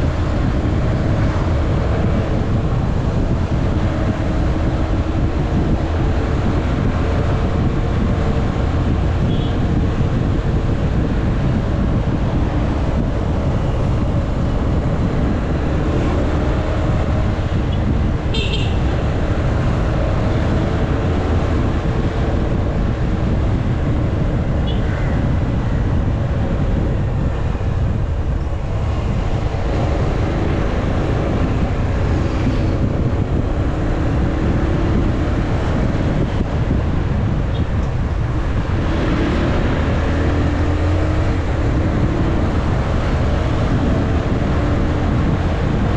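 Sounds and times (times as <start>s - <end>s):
motorcycle engine hum: 0.0s - 45.9s
wind and road noise: 0.0s - 45.9s.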